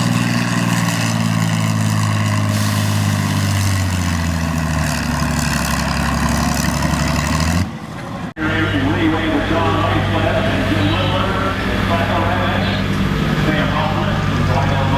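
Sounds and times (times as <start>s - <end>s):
tractor engine running hard: 0.0s - 14.9s.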